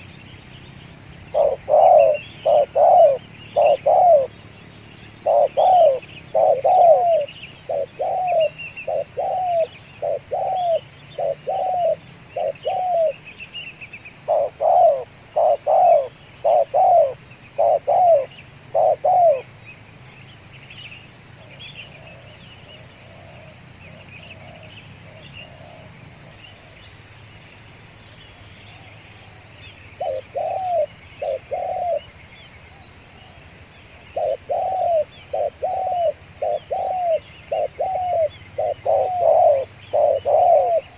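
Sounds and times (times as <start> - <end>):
small birds chirping: 0.0 - 40.9
doves cooing: 1.2 - 13.2, 14.2 - 19.5, 21.4 - 26.8, 28.7 - 40.9.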